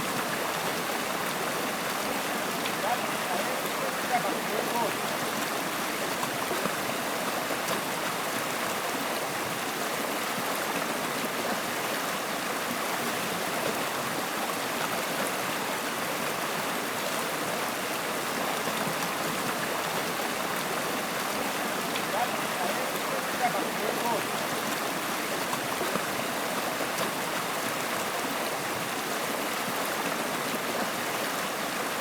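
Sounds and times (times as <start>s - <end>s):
stream water flowing: 0.0s - 32.0s.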